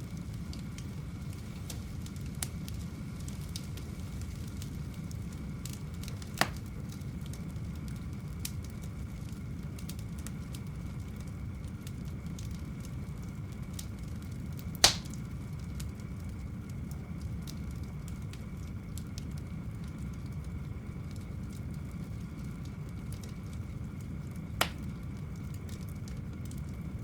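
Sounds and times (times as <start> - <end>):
faint fire crackles: 0.0 - 27.0
fire rumbling: 0.0 - 27.0
burning wood popping: 0.2 - 27.0.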